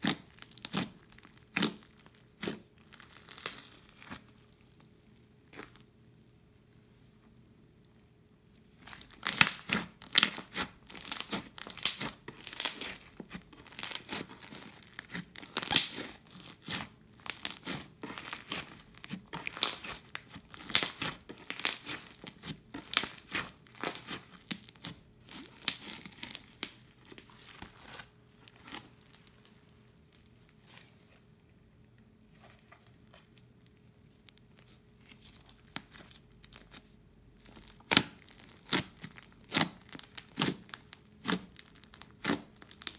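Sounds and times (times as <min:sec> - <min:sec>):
slime crackling and popping: 0:00.0 - 0:06.4, 0:08.7 - 0:30.3, 0:33.6 - 0:42.9.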